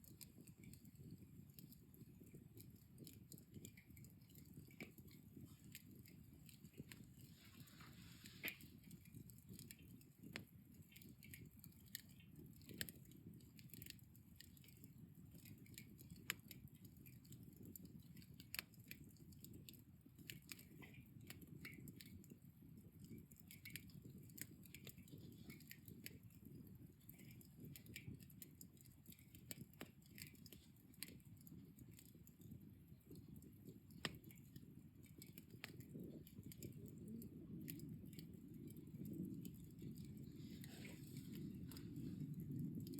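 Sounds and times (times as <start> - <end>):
embers crackling and popping: 0.0 - 42.9.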